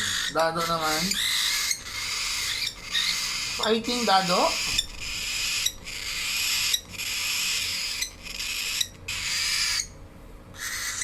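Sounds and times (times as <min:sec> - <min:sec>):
cockatiel hissing begging calls: 0:00.0 - 0:09.9, 0:10.6 - 0:11.0.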